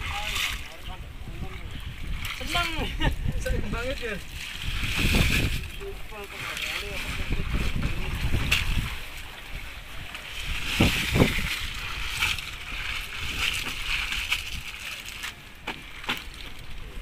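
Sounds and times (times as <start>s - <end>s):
seawater sloshing and splashing: 0.0s - 17.0s.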